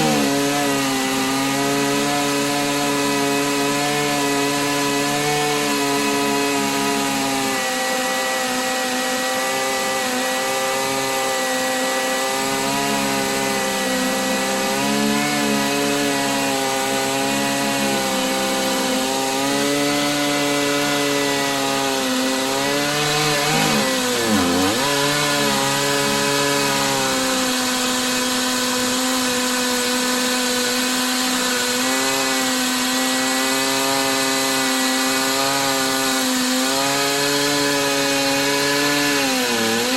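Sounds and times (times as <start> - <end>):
chainsaw ripping through log: 0.0 - 39.9.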